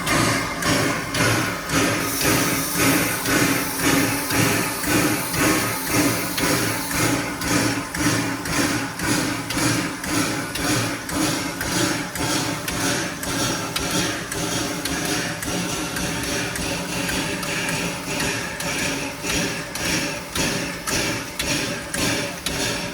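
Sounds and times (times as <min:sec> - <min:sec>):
steam locomotive chuffing rhythm: 0:00.0 - 0:22.9.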